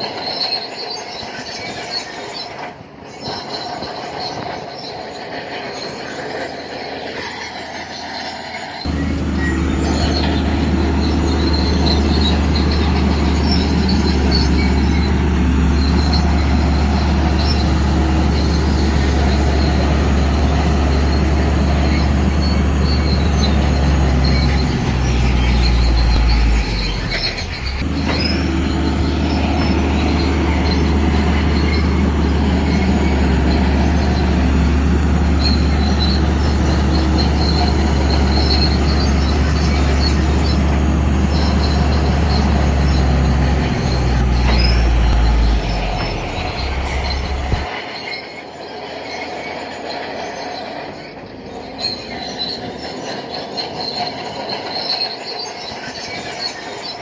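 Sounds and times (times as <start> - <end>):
bulldozer diesel engine droning: 0.0 - 57.0
steel tracks squealing: 0.0 - 57.0.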